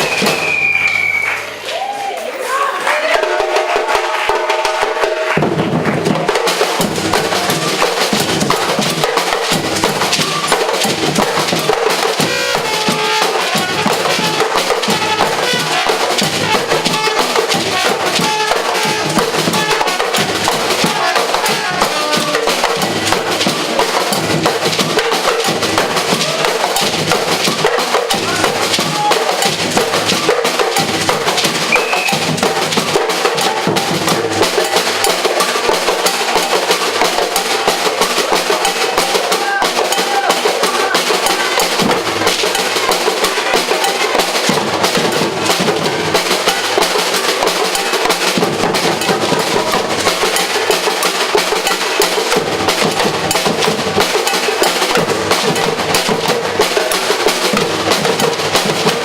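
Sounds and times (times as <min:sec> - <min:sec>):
percussion group drumming: 0:00.0 - 0:59.0.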